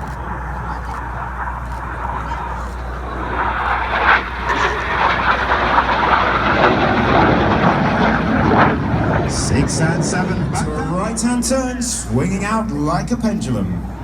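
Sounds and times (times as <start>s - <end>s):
jet aircraft roaring: 0.0s - 14.0s.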